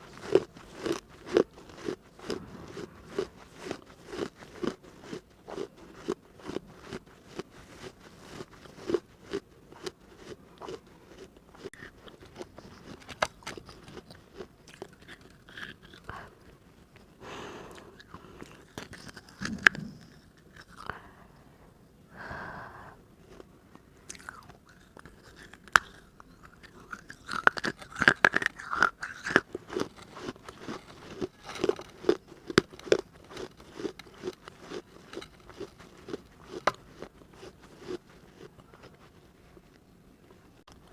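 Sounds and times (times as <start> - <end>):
chewing crunchy clay: 0.0 - 21.0, 23.2 - 39.9.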